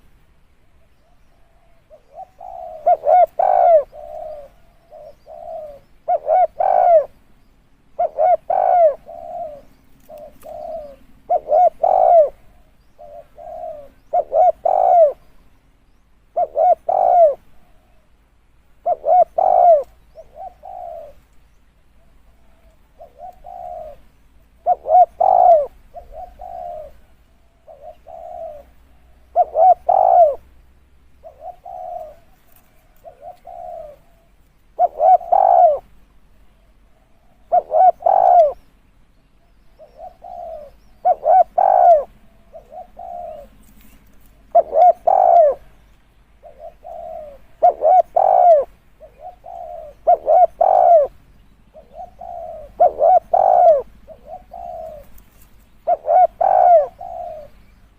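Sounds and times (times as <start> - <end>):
dove cooing: 1.0 - 7.2, 7.9 - 15.4, 16.3 - 21.3, 21.9 - 30.6, 31.2 - 36.0, 36.6 - 38.7, 39.4 - 57.9.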